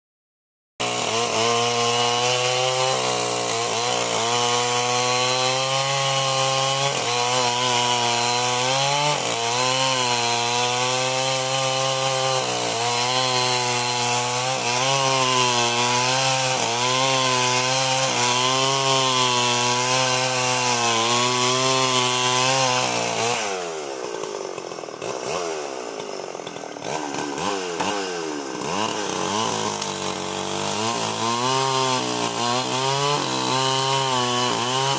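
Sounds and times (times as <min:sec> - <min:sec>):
chainsaw cutting wood: 0:00.8 - 0:34.9.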